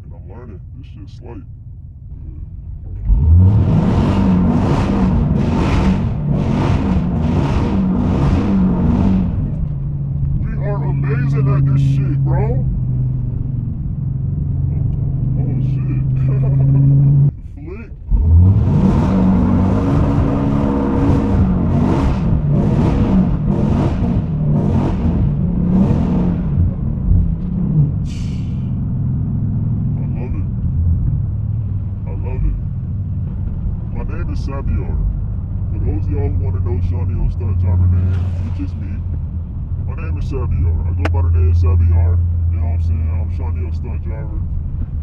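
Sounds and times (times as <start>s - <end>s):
car engine at full throttle: 0.0s - 45.0s.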